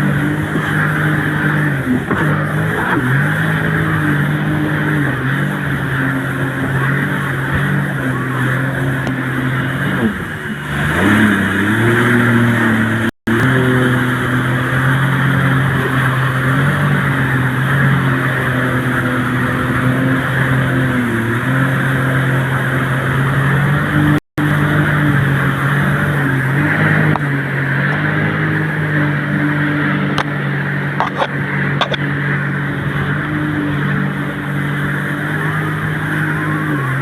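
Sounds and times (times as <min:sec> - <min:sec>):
boat motor running: 0:00.0 - 0:37.0
wind and water spray: 0:00.0 - 0:37.0.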